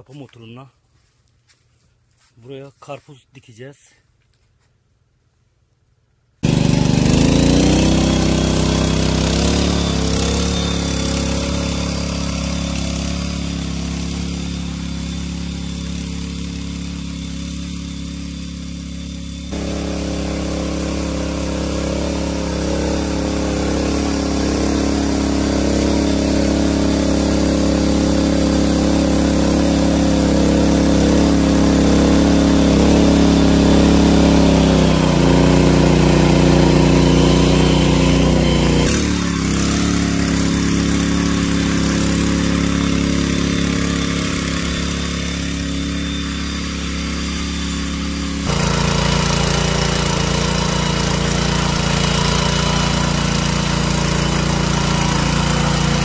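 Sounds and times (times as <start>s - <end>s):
small petrol tiller engine running: 6.4s - 56.0s
tines churning soil: 6.4s - 56.0s.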